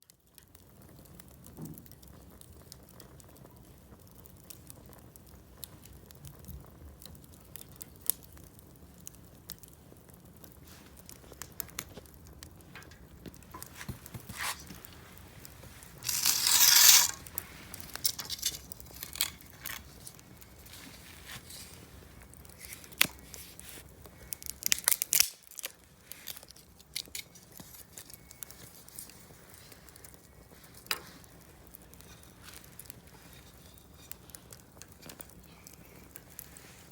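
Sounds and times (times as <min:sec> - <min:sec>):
campfire crackling: 0:00.0 - 0:36.9
fire pops and snaps: 0:00.0 - 0:36.9.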